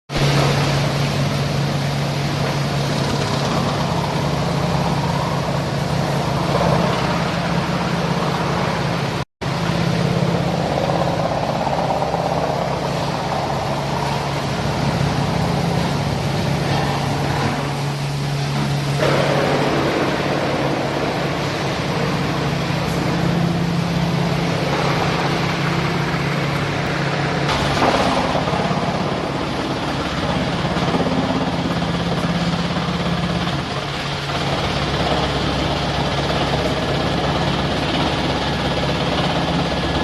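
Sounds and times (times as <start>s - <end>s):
wood-grinding machinery humming: 0.1s - 40.0s.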